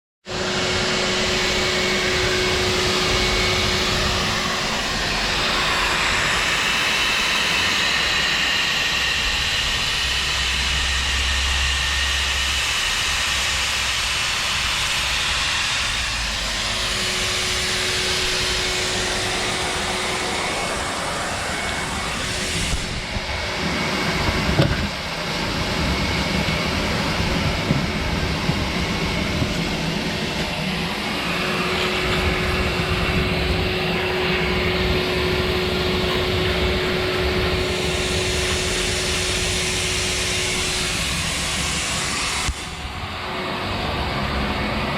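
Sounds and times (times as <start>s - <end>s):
shop vac motor whining: 0.3s - 44.9s.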